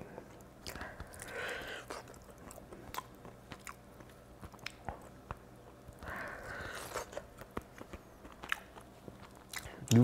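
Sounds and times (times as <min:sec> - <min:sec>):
person chewing: 0:00.1 - 0:10.0.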